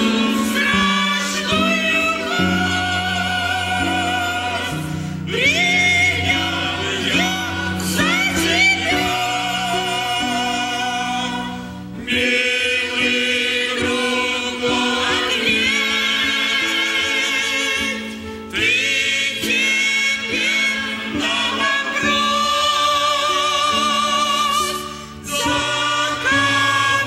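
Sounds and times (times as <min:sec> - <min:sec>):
choir singing a hymn: 0:00.0 - 0:27.0.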